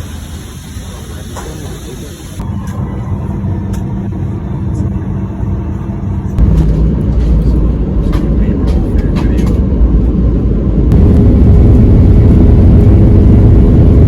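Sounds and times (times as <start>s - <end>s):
vehicle rumble: 2.2s - 14.0s.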